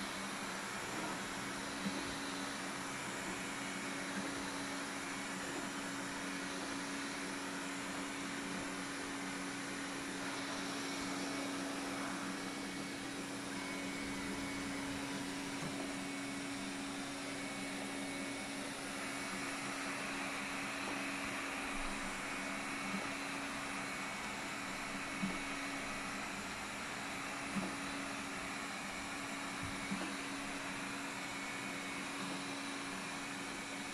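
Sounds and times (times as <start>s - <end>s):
robot vacuum humming: 0.0s - 33.9s.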